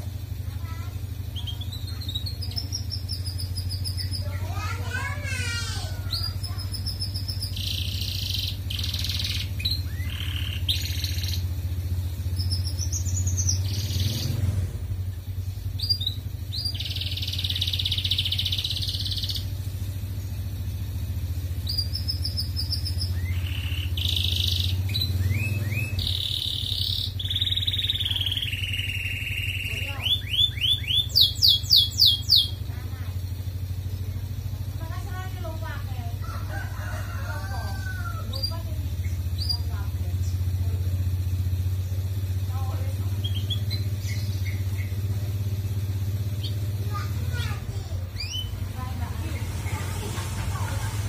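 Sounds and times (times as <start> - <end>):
canary singing trills: 0.0 - 51.0
steady low hum: 0.0 - 51.0.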